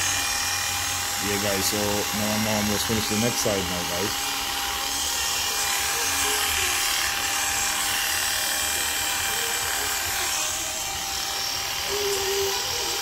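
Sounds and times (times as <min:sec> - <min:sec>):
electric hair clipper buzzing: 0:00.0 - 0:13.0.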